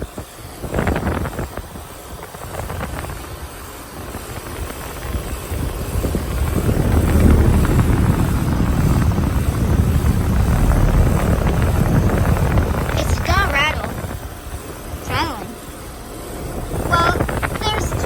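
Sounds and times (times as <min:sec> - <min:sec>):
air conditioner rumbling and rattling: 0:00.0 - 0:18.0.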